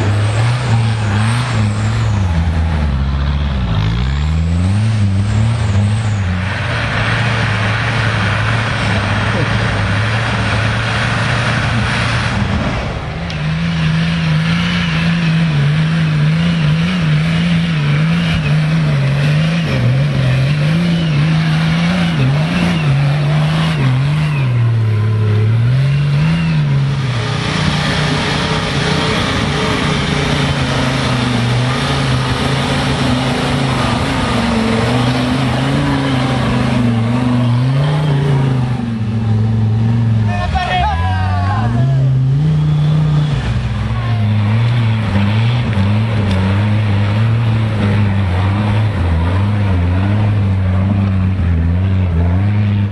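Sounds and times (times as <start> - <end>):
off-road engines revving hard: 0.0 - 52.9.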